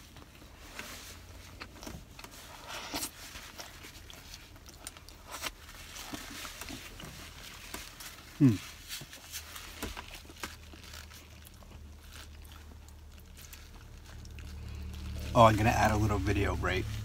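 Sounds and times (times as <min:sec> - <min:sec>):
crunchy chewing: 0:00.1 - 0:16.0.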